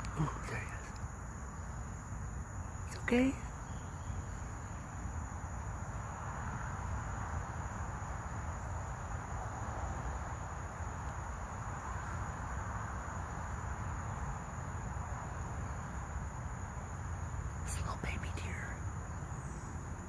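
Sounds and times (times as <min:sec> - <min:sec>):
high-pitched insect trill: 0:00.0 - 0:20.0
insect chorus drone: 0:00.0 - 0:20.0.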